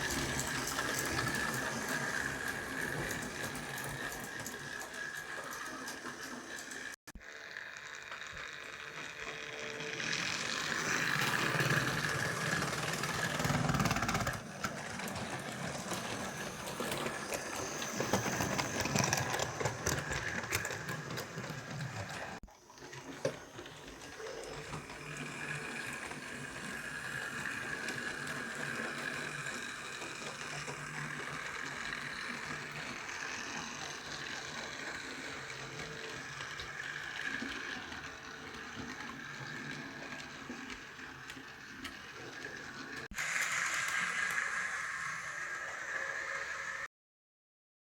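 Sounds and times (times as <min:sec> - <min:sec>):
model train motor whirring: 0:00.0 - 0:46.9
wheels clicking on rails: 0:00.0 - 0:46.9.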